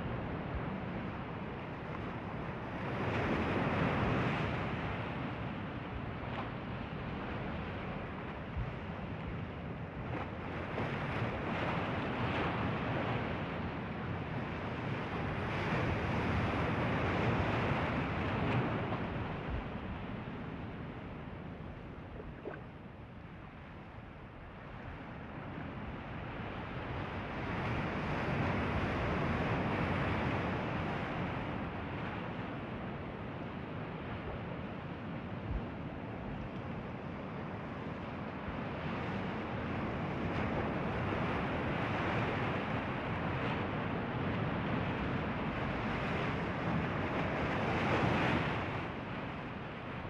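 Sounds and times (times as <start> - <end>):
ocean surf washing on beach: 0.0 - 21.8, 24.5 - 50.0
wind on microphone: 0.0 - 50.0.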